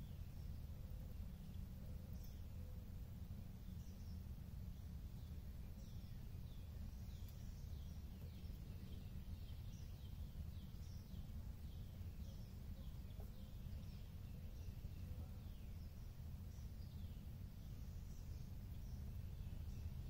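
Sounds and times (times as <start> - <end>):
low steady rumble: 0.0 - 20.0
small birds chirping: 0.0 - 20.0.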